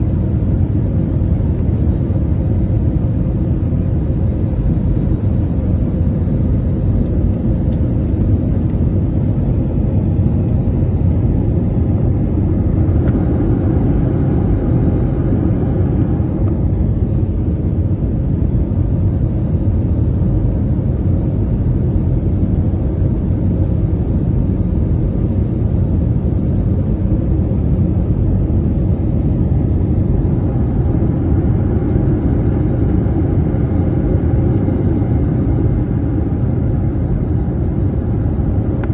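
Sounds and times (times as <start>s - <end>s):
airliner engine rumble in cabin: 0.0s - 38.9s
faint steady hum: 0.0s - 38.9s.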